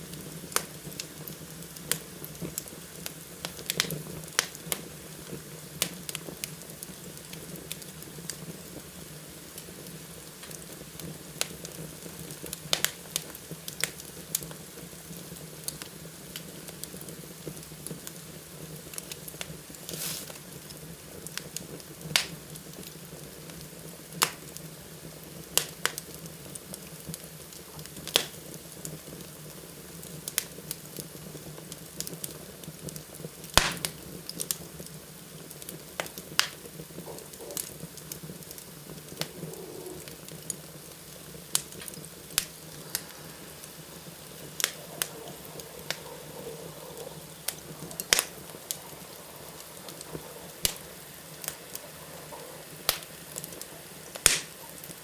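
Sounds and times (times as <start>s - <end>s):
fire crackling in fireplace: 0.0s - 55.0s.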